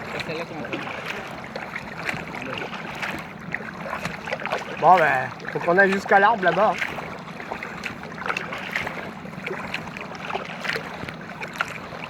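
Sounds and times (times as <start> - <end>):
steady low hum: 0.0 - 12.0
water splashing around kayak: 0.0 - 12.0.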